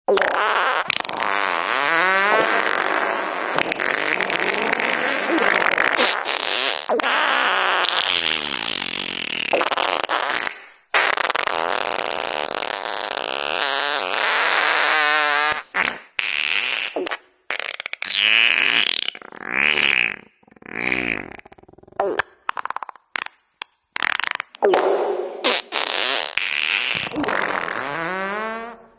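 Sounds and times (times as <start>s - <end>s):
long wavering fart: 0.1s - 23.3s, 24.0s - 28.9s
short farts: 0.1s - 23.4s, 24.0s - 28.9s.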